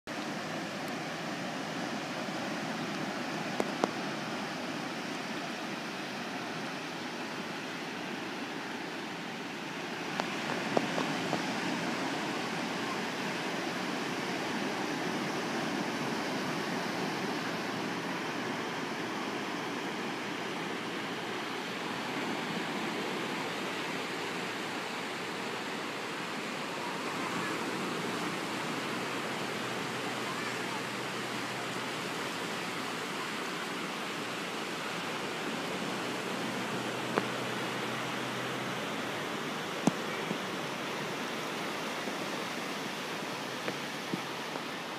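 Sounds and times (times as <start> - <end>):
surf breaking on beach: 0.2 - 44.9.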